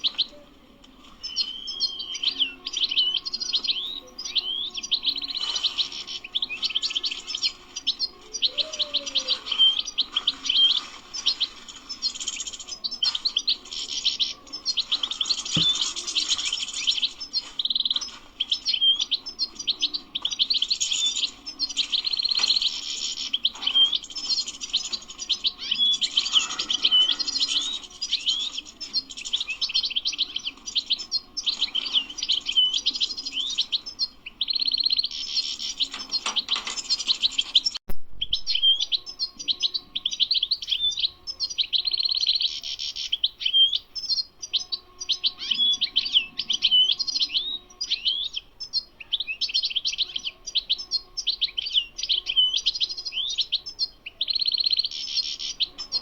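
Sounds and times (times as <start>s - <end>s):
goldfinch twittering song: 1.2s - 56.0s.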